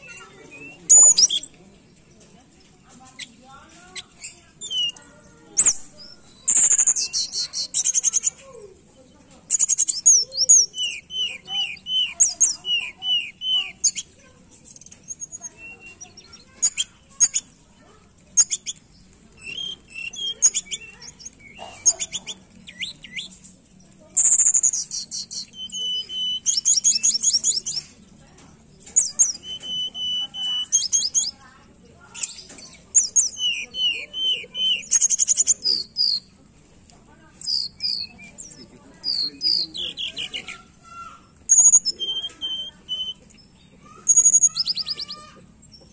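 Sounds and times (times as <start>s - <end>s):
bird singing trills and whistles: 0.0s - 1.6s, 3.2s - 8.7s, 9.5s - 17.8s, 18.4s - 23.5s, 24.1s - 28.0s, 28.8s - 36.4s, 37.4s - 45.9s
bird chips: 0.0s - 45.9s.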